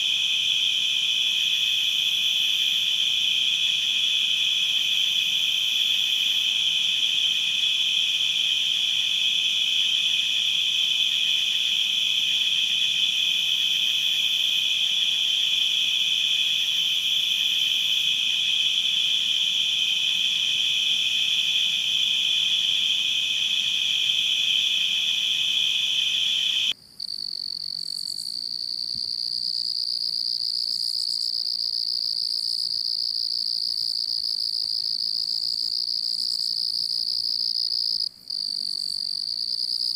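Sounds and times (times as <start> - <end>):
crickets chirping: 0.0 - 39.9
higher-pitched cricket chorus: 0.0 - 39.9.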